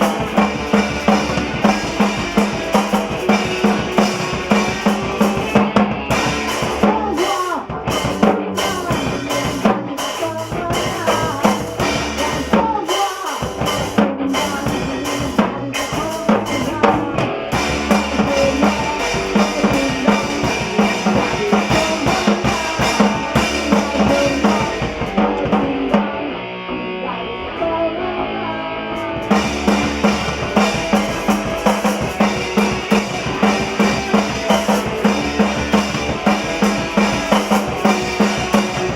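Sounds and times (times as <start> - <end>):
bass drum and snare beat: 0.0 - 12.8, 13.4 - 25.9, 29.2 - 38.9
band playing live: 0.0 - 38.9.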